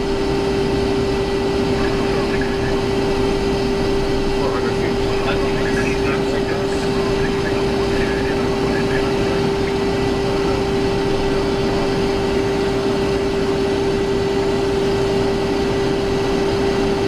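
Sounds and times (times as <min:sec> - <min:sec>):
constant hum: 0:00.0 - 0:17.0
jet cockpit engine and airflow noise: 0:00.0 - 0:17.0.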